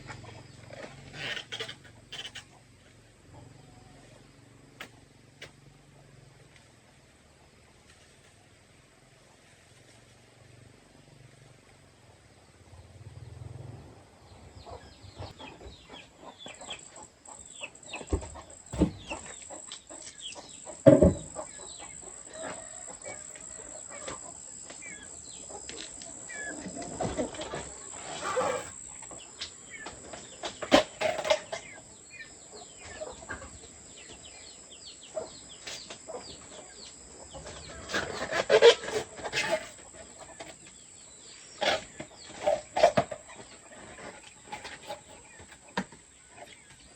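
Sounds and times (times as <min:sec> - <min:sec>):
chickens clucking: 0:00.0 - 0:05.7, 0:12.7 - 0:46.9.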